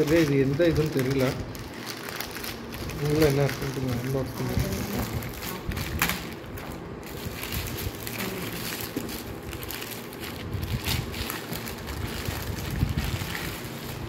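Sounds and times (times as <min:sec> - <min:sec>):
plastic mailer crinkling and tearing: 0:00.0 - 0:14.0.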